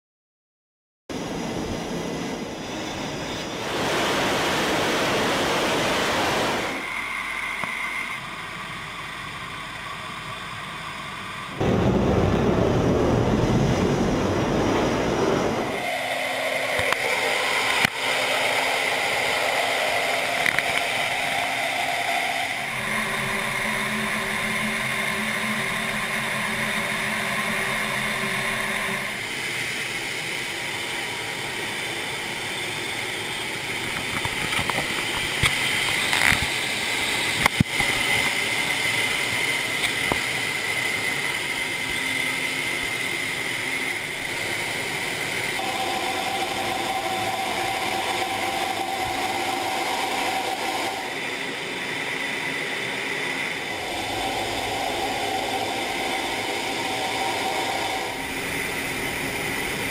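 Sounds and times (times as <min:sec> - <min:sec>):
jet engine roar: 0:01.1 - 0:59.9
jet engine whine: 0:01.1 - 0:59.9.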